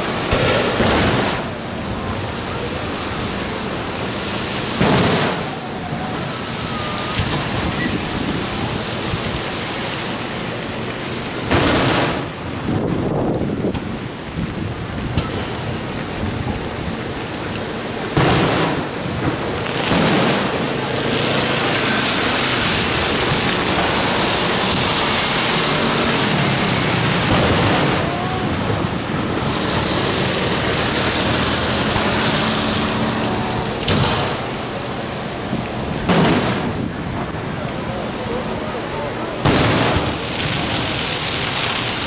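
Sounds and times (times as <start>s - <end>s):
dense rushing noise: 0.0s - 42.0s
fireworks booming: 0.0s - 42.0s.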